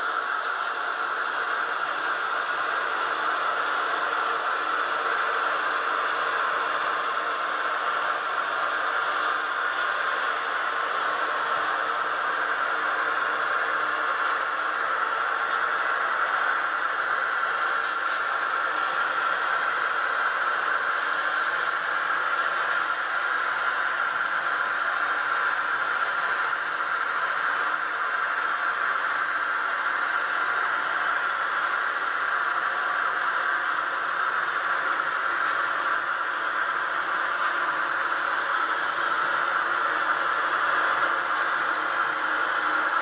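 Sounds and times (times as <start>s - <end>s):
model train whirring on track: 0.0s - 43.0s.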